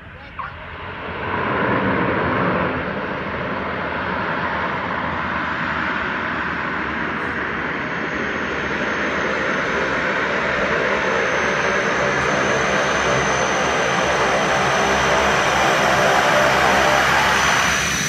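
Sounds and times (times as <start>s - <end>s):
propeller aircraft engine: 0.0s - 18.0s.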